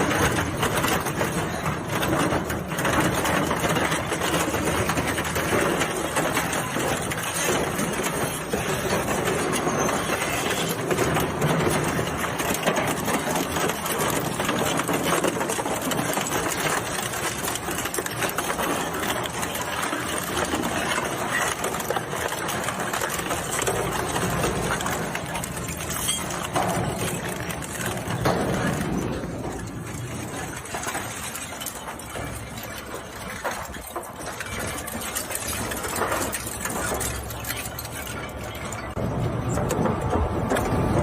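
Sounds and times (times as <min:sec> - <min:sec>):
plastic shredder machine running: 0:00.0 - 0:41.0.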